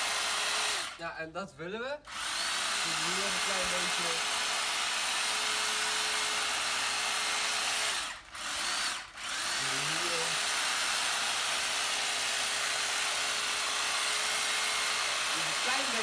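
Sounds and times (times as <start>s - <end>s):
electric hedge trimmer humming: 0.0s - 1.0s, 2.0s - 16.0s.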